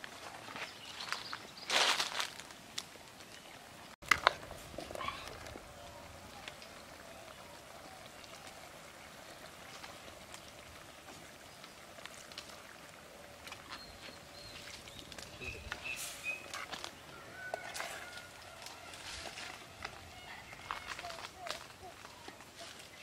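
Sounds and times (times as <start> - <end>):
wood fire crackling: 0.0 - 23.0
curry bubbling in pot: 4.0 - 23.0
wooden spatula stirring: 4.0 - 23.0.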